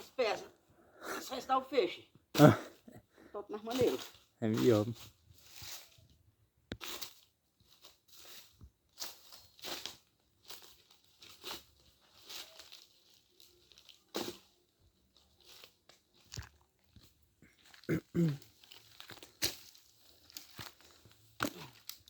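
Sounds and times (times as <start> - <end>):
dry leaves and twigs crunching: 3.5 - 6.1, 6.8 - 22.0.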